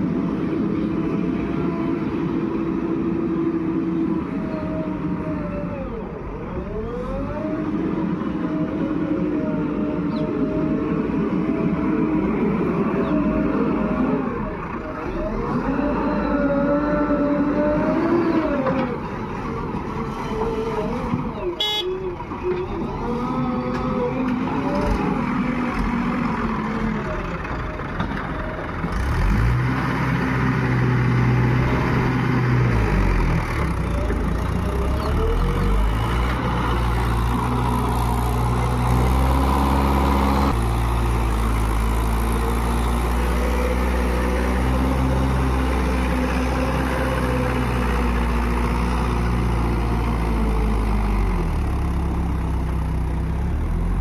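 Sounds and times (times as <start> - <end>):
heavy diesel engines working: 0.0 - 54.0.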